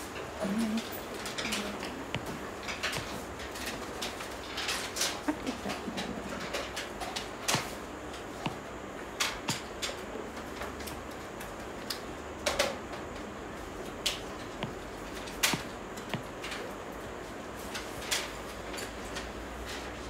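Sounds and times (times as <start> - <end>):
room hiss: 0.0 - 20.0.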